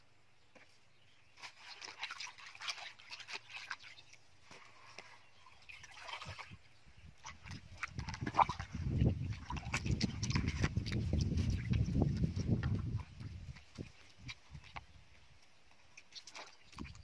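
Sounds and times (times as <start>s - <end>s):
water sloshing: 1.3s - 15.0s, 15.7s - 17.0s
water splashing in a plastic basin: 1.3s - 15.0s, 16.0s - 17.0s.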